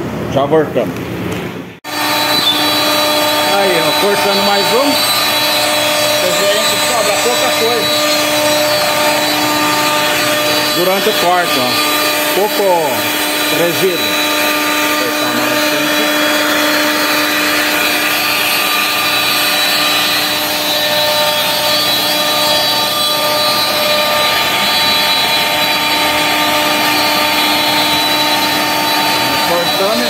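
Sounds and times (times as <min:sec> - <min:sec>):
router bit cutting board: 0:01.8 - 0:30.0
router spindle whining: 0:01.8 - 0:30.0
dust extractor: 0:01.9 - 0:30.0.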